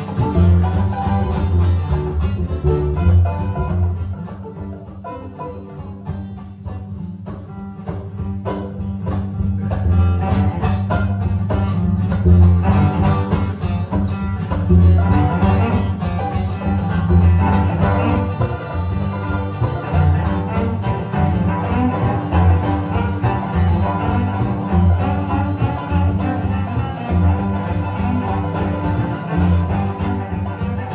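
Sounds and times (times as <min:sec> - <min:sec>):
acoustic guitar: 0:00.0 - 0:30.9
bowed cello: 0:00.0 - 0:30.9
picked mandolin: 0:00.0 - 0:30.9
upright bass low notes: 0:00.0 - 0:30.9.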